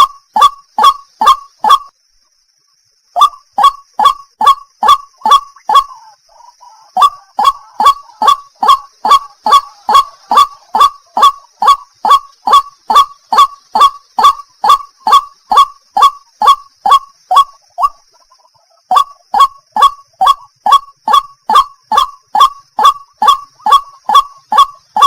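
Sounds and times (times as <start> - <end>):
bird croaking calls: 0.0 - 2.0, 3.1 - 25.0.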